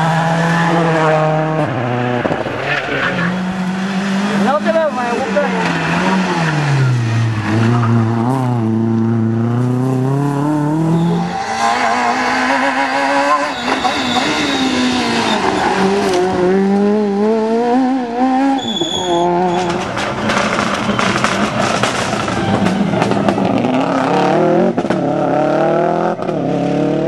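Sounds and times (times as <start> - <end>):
rally car downshifting and revving: 0.0 - 27.0
rally car engine accelerating: 0.0 - 27.0.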